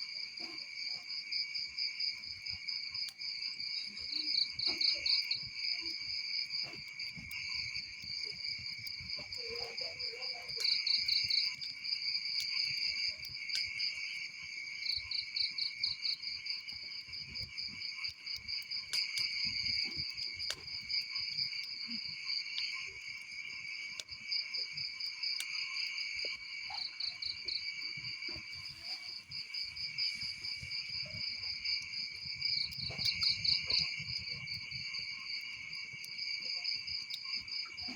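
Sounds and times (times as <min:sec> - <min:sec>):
crickets chirping: 0:00.0 - 0:37.9
wood fire crackling: 0:00.0 - 0:37.9.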